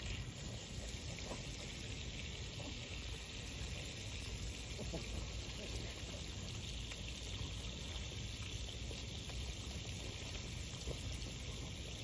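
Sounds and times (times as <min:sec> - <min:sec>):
water spraying from garden hose: 0:00.0 - 0:12.0.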